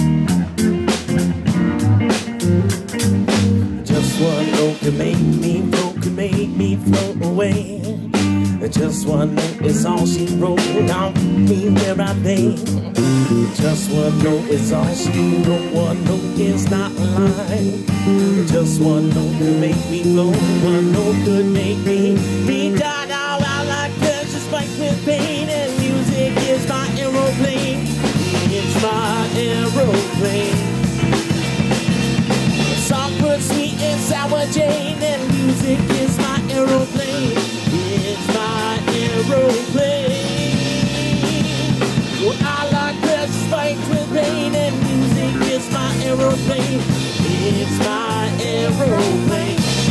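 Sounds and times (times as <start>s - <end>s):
drum kit beat: 0.0s - 49.9s
electric bass line: 0.0s - 49.9s
electric guitar lead with bent notes: 0.0s - 49.9s.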